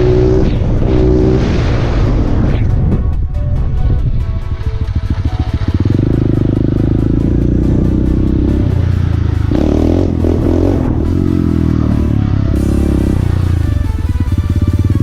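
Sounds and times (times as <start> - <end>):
motorcycle engine running: 0.0 - 2.2, 2.8 - 15.0
music playing: 0.0 - 15.0.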